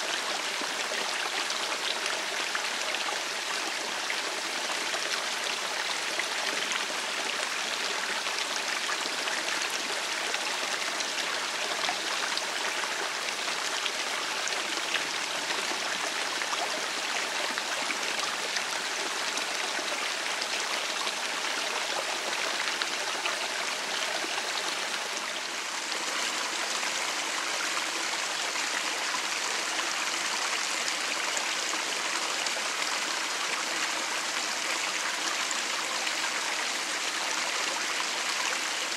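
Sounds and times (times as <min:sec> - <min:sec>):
brook water babbling: 0:00.0 - 0:38.9.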